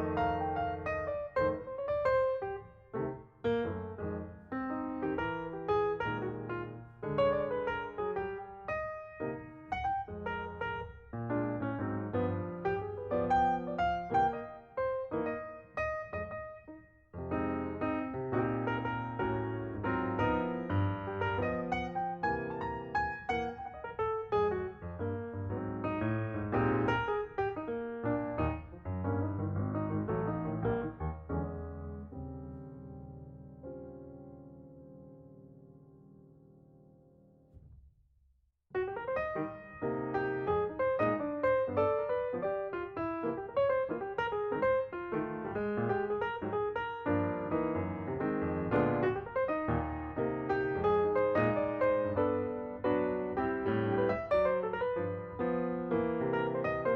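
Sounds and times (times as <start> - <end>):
piano music: 0.0 - 37.6, 38.7 - 56.9.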